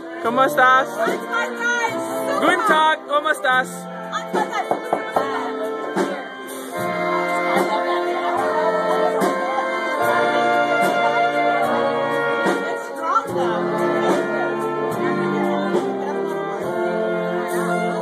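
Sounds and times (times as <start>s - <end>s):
accordion: 0.0s - 18.0s
brass band music: 0.0s - 18.0s
clarinet: 0.0s - 18.0s.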